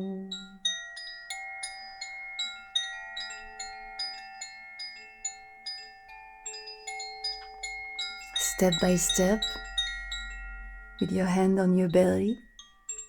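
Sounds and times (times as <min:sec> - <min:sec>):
metal chimes ringing: 0:00.0 - 0:13.0.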